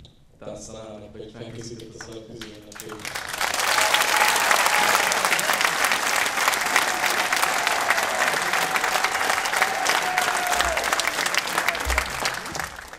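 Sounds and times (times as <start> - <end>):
audience applauding: 1.6 - 12.9.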